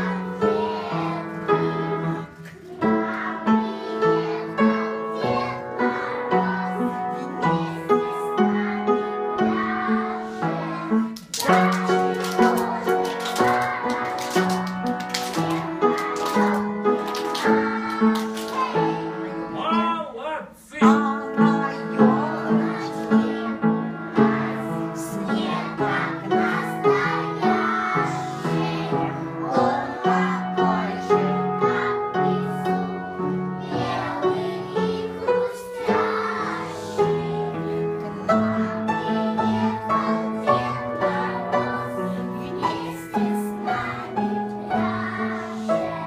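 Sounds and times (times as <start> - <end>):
children singing: 0.0 - 19.8, 20.8 - 46.0
upright piano playing: 0.0 - 20.2, 20.8 - 46.0.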